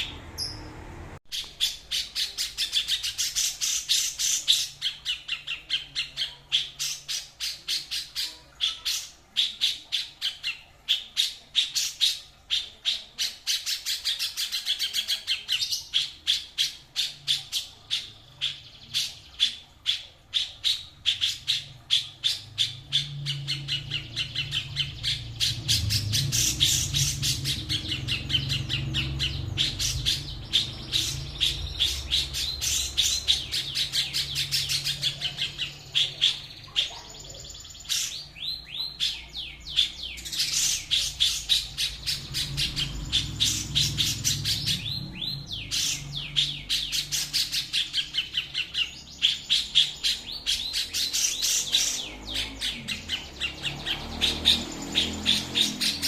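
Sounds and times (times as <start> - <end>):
songbird calling: 0.0 - 56.0.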